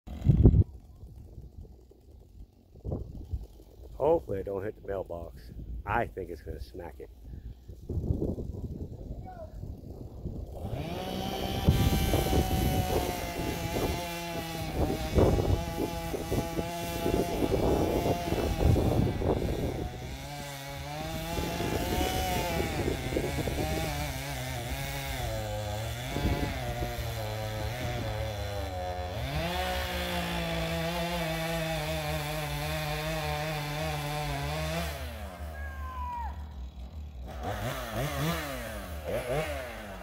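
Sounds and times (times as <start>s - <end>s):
chainsaw cutting tree trunk: 0.1s - 5.3s, 7.2s - 40.0s.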